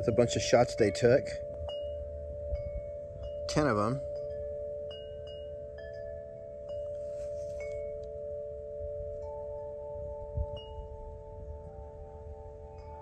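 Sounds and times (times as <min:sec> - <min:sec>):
chimes ringing: 0:00.0 - 0:13.0.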